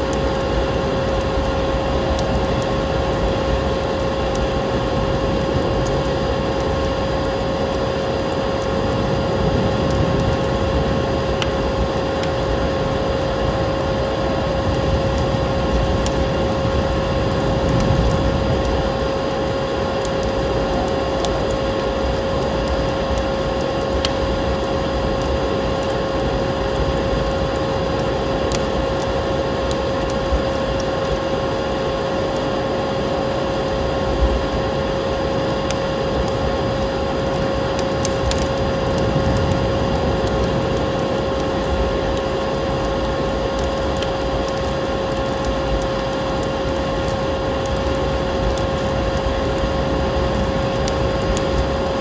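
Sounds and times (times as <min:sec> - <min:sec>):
steady rushing noise: 0:00.0 - 0:52.0
wood fire crackling: 0:00.0 - 0:52.0.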